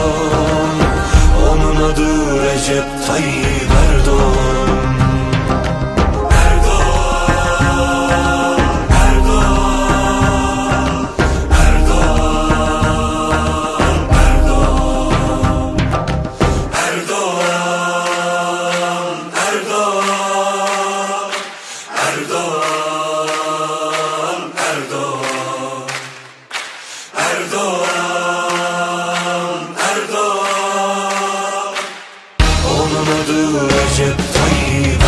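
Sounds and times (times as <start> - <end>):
chant-like choral singing: 0.0 - 35.0.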